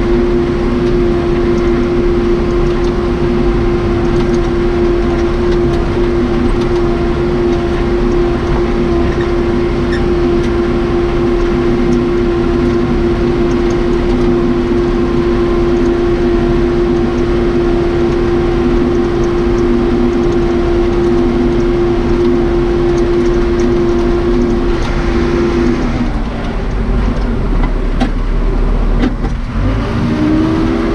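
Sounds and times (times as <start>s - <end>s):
constant whine: 0.0s - 30.9s
diesel engine running: 0.0s - 30.9s.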